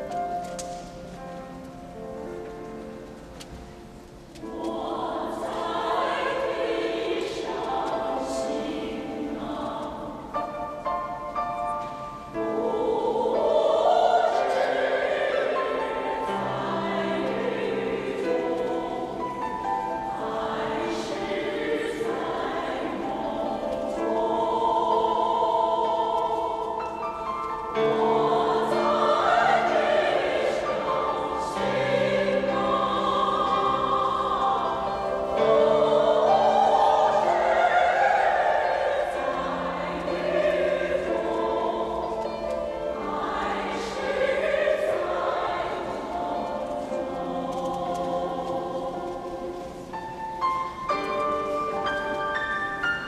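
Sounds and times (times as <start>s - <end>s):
choir singing: 4.2s - 53.0s.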